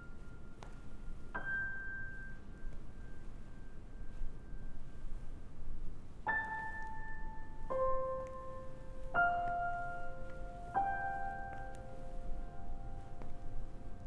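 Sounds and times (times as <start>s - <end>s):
slow sparse piano notes: 0.0s - 14.0s.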